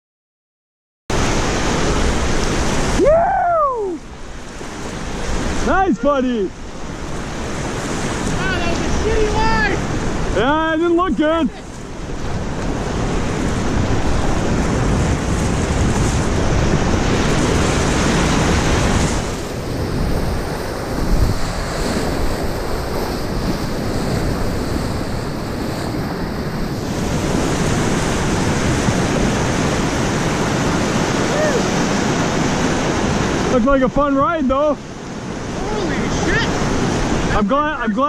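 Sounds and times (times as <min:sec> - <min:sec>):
whitewater rapids rushing: 0:01.1 - 0:38.0
wind buffeting microphone: 0:01.2 - 0:37.8.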